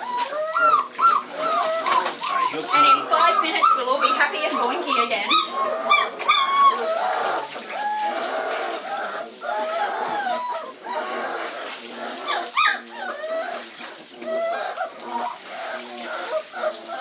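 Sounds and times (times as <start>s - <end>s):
puppies whining and yelping: 0.0s - 17.0s
water splashing: 0.0s - 17.0s.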